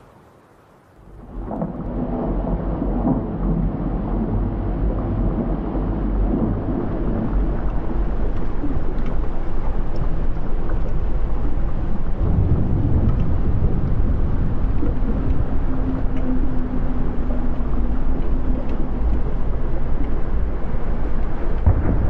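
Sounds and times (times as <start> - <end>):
deep rumbling of underwater eruption: 1.0 - 22.0
steady low hum: 1.2 - 22.0.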